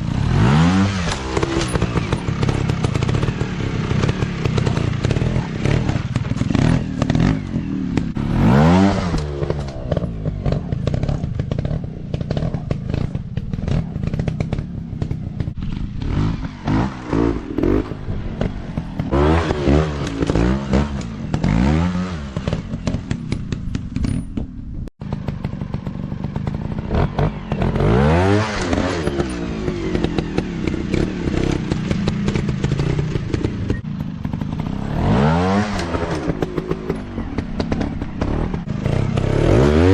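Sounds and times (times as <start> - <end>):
dirt bike engines revving: 0.0 - 24.1, 25.1 - 39.9.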